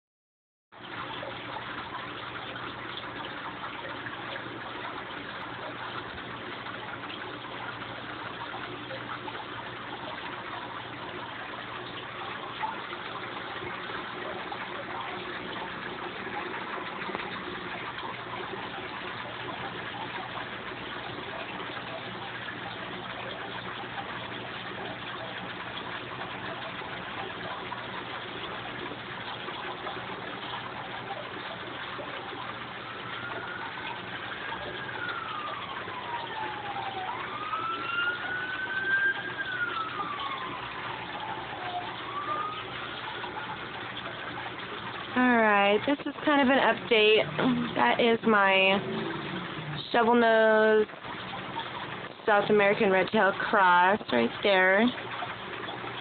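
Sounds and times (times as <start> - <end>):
air bubbles hissing and splashing: 0.8 - 56.0
aquarium pump hum: 0.8 - 56.0.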